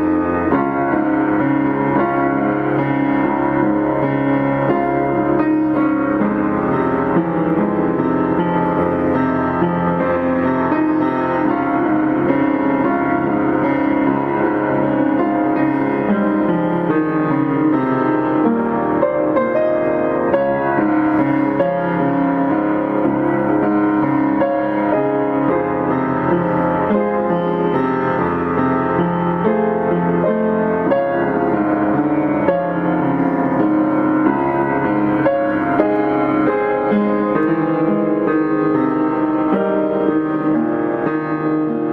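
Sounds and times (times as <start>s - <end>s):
background piano music: 0.0s - 41.9s.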